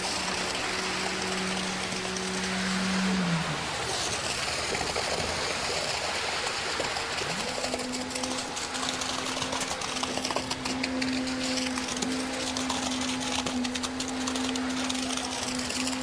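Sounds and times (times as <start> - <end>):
concrete gushing from hose: 0.0 - 16.0
low steady hum: 0.0 - 16.0.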